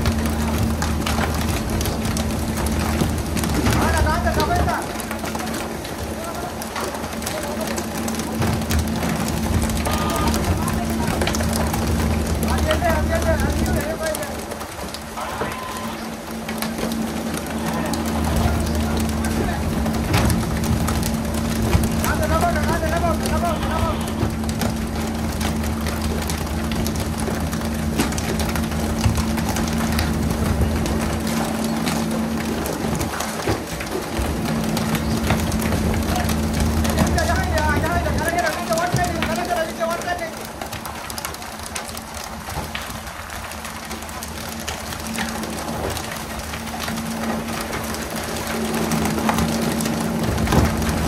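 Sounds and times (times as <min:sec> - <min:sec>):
boat engine humming: 0:00.0 - 0:51.0.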